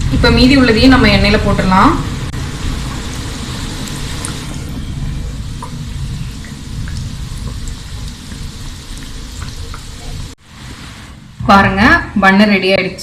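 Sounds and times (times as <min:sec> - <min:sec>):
dough deep-frying in oil: 0:00.0 - 0:11.4.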